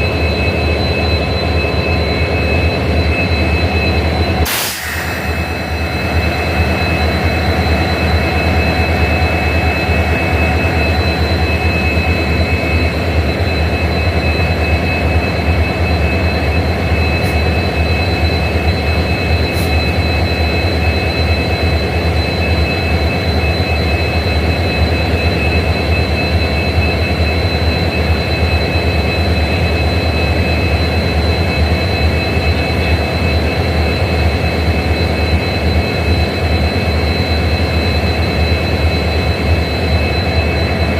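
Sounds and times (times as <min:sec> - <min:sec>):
diesel locomotives idling: 0:00.0 - 0:40.9
high-pitched whine: 0:00.0 - 0:40.9.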